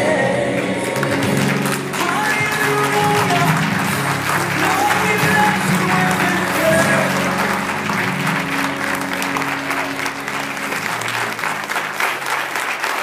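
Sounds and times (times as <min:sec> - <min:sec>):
music: 0:00.0 - 0:13.0
congregation applauding: 0:00.4 - 0:13.0.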